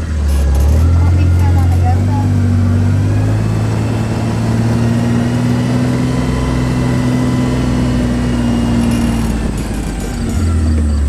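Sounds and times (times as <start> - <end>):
small vehicle engine running: 0.0 - 11.0.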